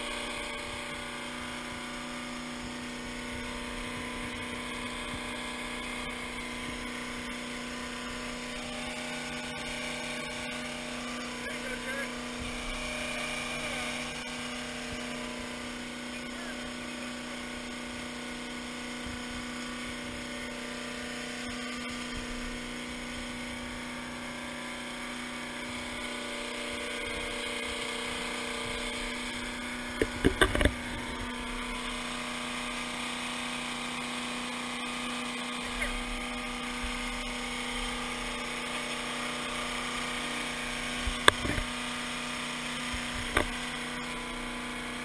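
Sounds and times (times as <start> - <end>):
steady motor hum: 0.0 - 45.0.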